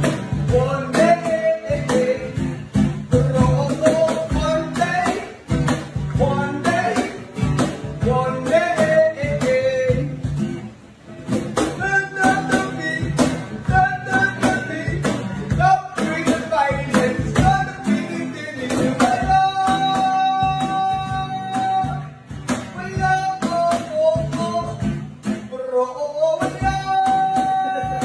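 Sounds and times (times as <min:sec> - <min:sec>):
man singing: 0:00.0 - 0:10.5, 0:11.4 - 0:28.0
guitar strumming: 0:00.0 - 0:28.0.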